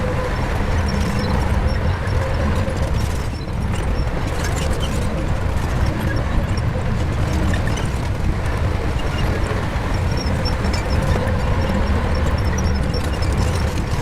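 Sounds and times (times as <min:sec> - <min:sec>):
bulldozer diesel engine rumbling: 0:00.0 - 0:14.0.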